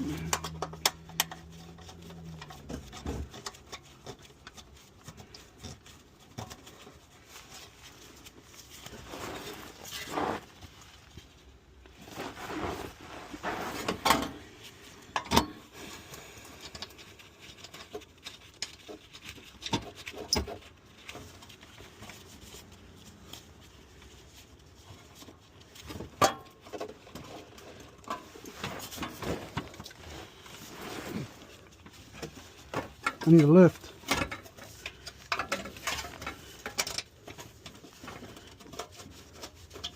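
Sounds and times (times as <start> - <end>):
tools and car parts handled: 0.0 - 39.9.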